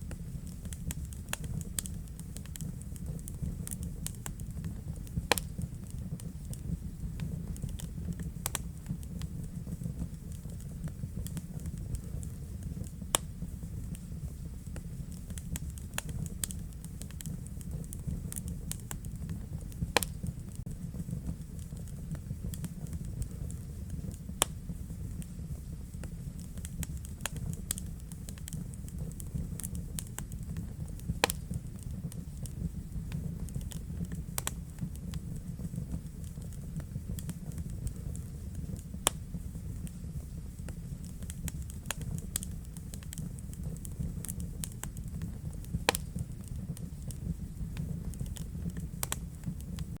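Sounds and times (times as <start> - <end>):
low rumble of flames: 0.0 - 50.0
wood fire crackling: 0.0 - 50.0.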